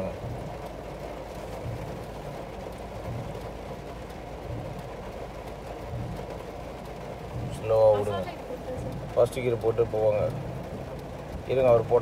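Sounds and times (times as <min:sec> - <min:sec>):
car engine humming: 0:00.0 - 0:12.0
heavy rain on a car: 0:00.0 - 0:12.0
windscreen wipers sweeping: 0:00.0 - 0:12.0.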